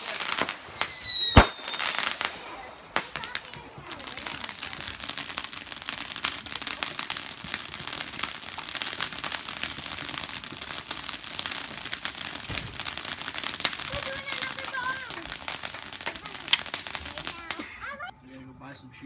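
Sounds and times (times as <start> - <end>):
fireworks crackling: 0.0 - 18.2.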